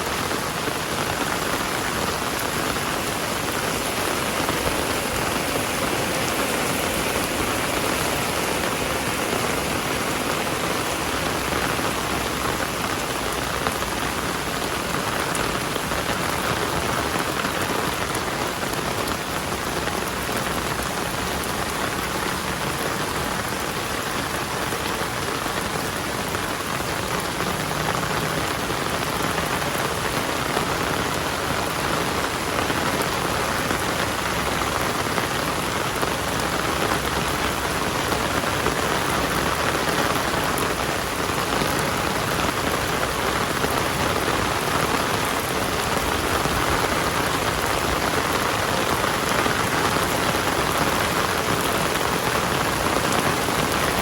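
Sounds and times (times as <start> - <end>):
heavy rain pattering: 0.0 - 54.0.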